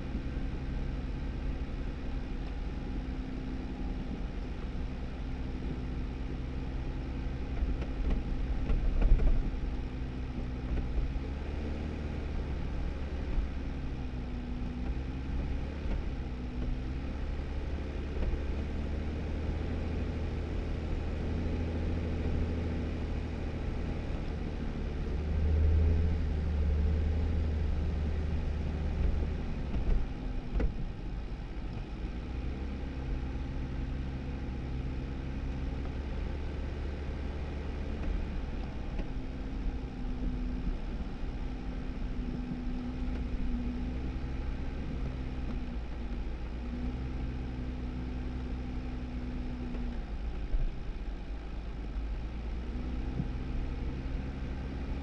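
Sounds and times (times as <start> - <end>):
car engine running: 0.0 - 55.0
tires rumbling on road: 0.0 - 55.0.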